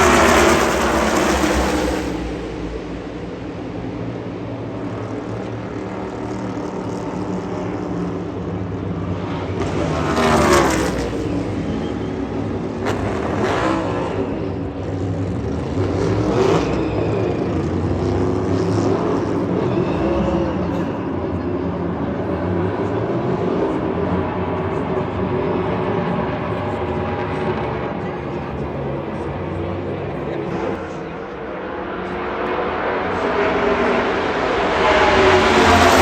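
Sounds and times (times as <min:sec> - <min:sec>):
race car engine drone: 0:00.0 - 0:36.0
race cars passing by: 0:00.0 - 0:36.0.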